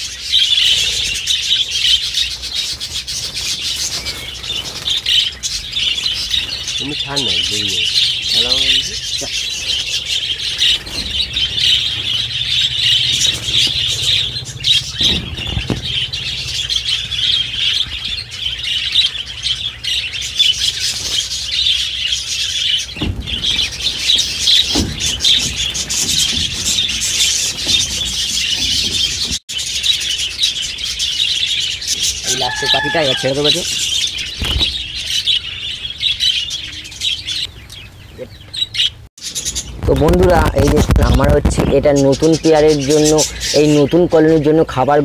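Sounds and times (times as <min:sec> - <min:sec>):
budgerigars chattering and chirping: 0:00.0 - 0:45.0.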